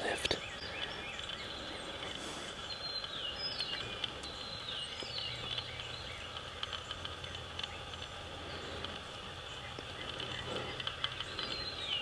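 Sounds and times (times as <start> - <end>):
background hiss: 0.0 - 12.0
faint low hum: 0.0 - 12.0
songbirds whistling: 0.0 - 12.0.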